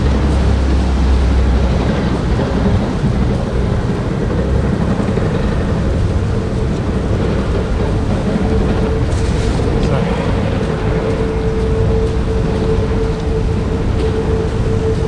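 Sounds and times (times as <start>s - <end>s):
road traffic: 0.0s - 15.0s
wind gusting on microphone: 0.0s - 15.0s.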